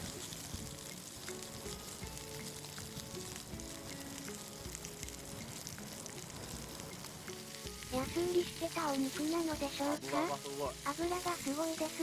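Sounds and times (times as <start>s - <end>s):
background music with held notes: 0.0s - 12.0s
meat sizzling in a pan: 0.0s - 12.0s.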